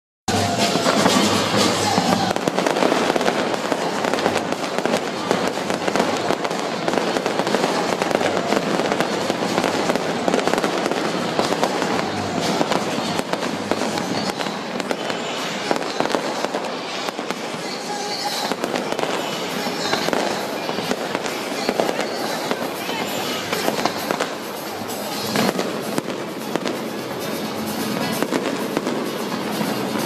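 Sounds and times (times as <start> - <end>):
fireworks bangs and crackles: 0.3 - 30.0.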